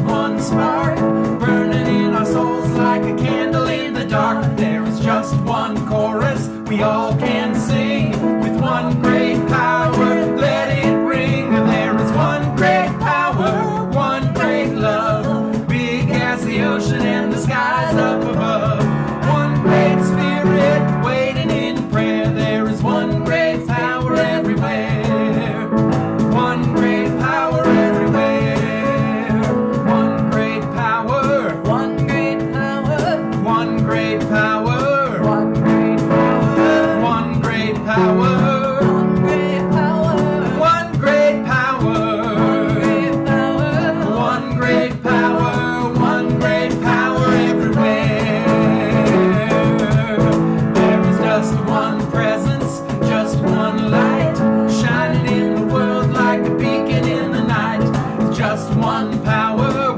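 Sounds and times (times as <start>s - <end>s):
people singing: 0.0s - 59.9s
plucked acoustic guitar: 0.0s - 59.9s.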